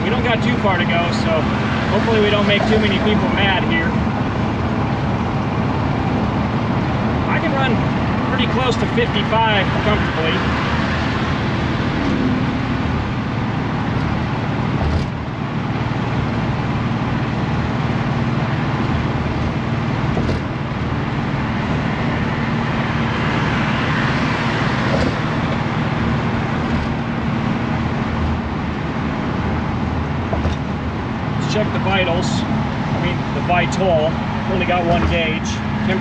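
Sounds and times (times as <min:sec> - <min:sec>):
car interior road drone: 0:00.0 - 0:36.0.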